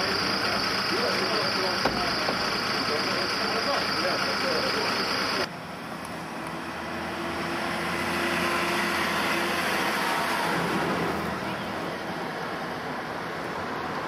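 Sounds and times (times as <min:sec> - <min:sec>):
bus engine passing by: 0:02.4 - 0:14.0.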